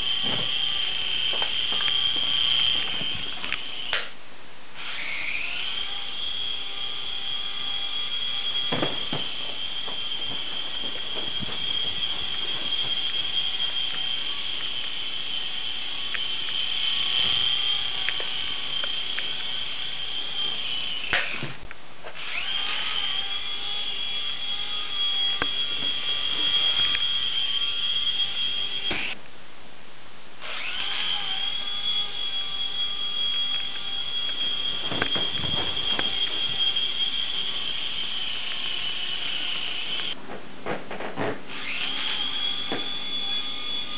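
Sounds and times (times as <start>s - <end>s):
toy helicopter motor whine: 0.0s - 4.2s, 4.8s - 29.2s, 30.4s - 40.2s, 40.9s - 43.9s.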